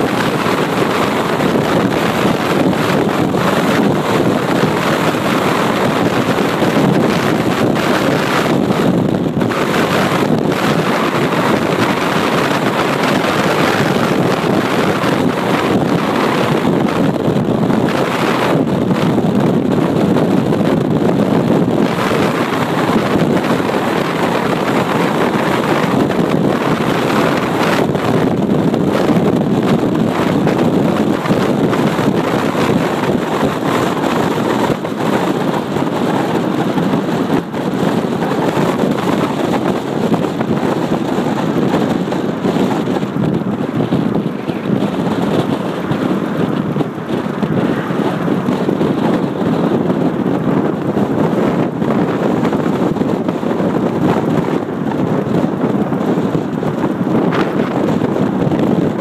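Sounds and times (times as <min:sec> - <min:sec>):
tyre and road noise: 0:00.0 - 0:59.0
wind rushing over microphone: 0:00.0 - 0:59.0.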